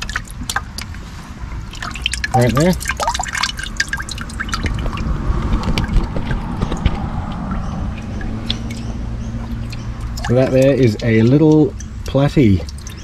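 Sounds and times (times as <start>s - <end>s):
water dripping into bucket: 0.0s - 13.0s.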